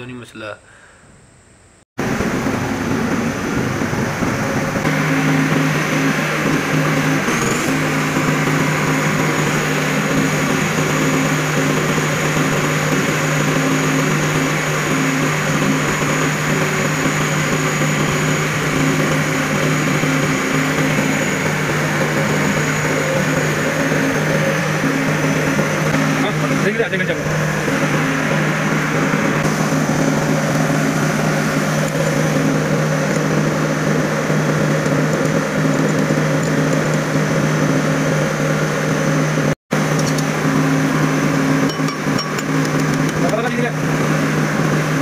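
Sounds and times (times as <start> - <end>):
machine drone with high whine: 0.6 - 45.0.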